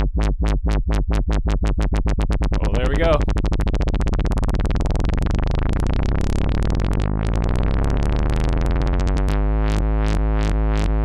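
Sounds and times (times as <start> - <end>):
synthesizer bass tone wobbling: 0.0 - 11.0.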